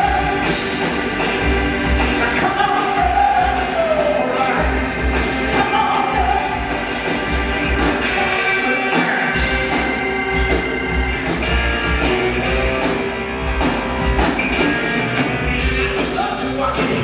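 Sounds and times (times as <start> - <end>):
electric guitar chords: 0.0 - 17.0
rock band playing live: 0.0 - 17.0.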